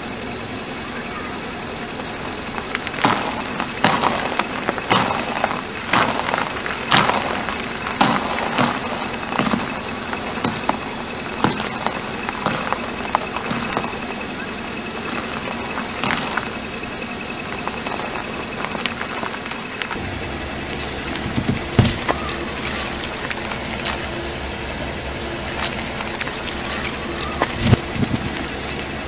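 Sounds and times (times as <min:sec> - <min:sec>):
car tyre crushing crackers: 0:01.6 - 0:29.0.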